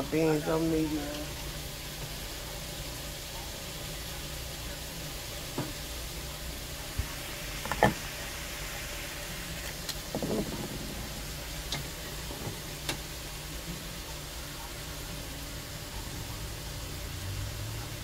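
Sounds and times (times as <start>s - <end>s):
steady low hum: 0.0s - 17.2s.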